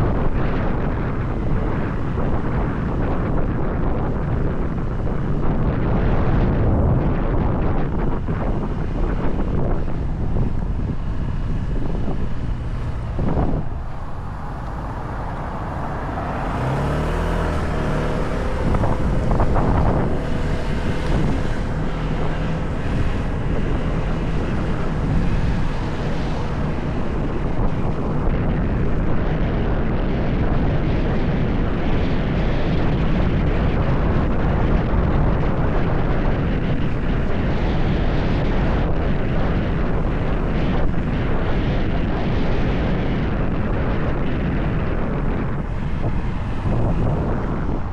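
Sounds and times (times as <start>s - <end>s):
wind noise on microphone: 0.0s - 47.9s
motorcycle engine running: 0.1s - 47.9s.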